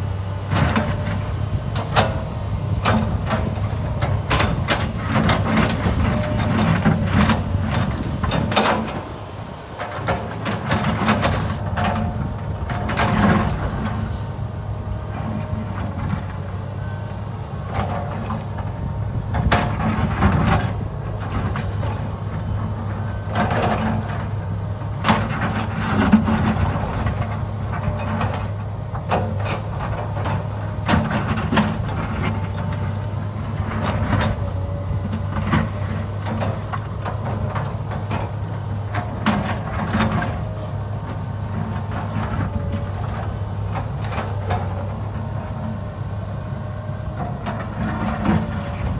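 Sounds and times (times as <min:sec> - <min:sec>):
excavator engine running: 0:00.0 - 0:48.9.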